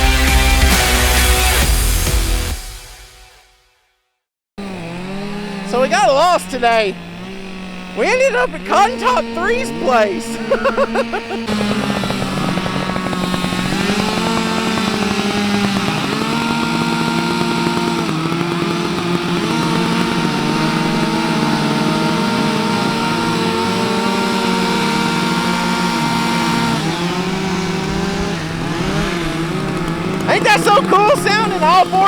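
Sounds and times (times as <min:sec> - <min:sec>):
chainsaws running together: 0:00.0 - 0:02.8, 0:04.6 - 0:32.0.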